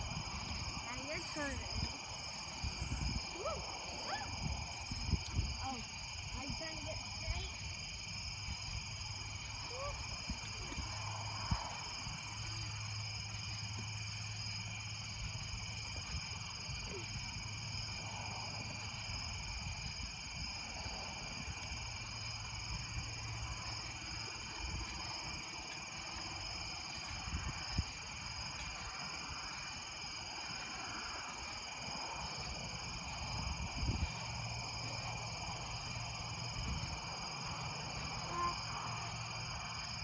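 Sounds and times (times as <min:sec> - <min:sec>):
night insects trilling: 0:00.0 - 0:40.0.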